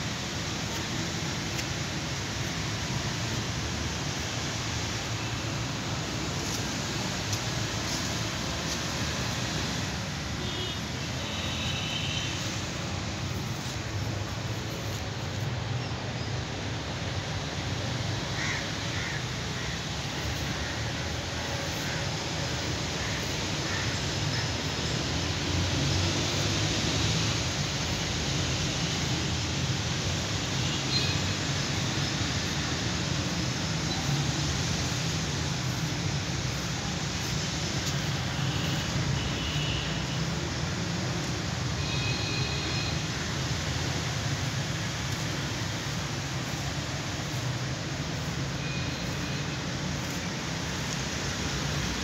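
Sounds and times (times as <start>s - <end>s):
outdoor background noise: 0.0s - 52.0s.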